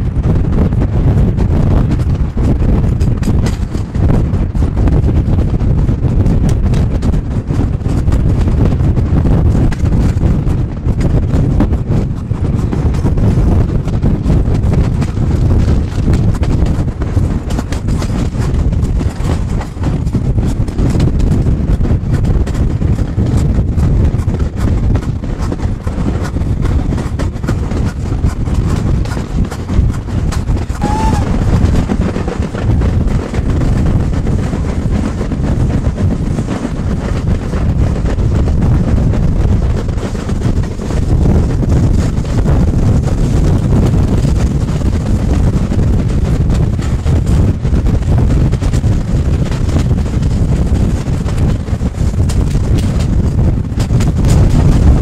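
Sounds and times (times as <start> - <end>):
train rumble and clatter: 0.0 - 55.0
wind buffeting microphone: 0.0 - 55.0.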